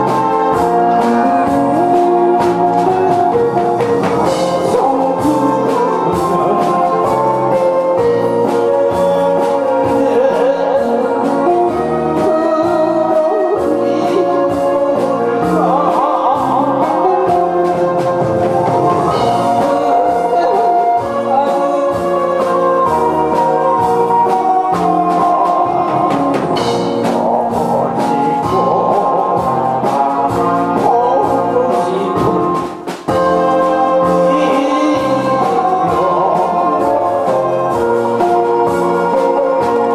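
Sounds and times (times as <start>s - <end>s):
man singing into a microphone: 0.0s - 18.2s, 18.8s - 39.9s
loud instrumental backing music: 0.0s - 39.9s.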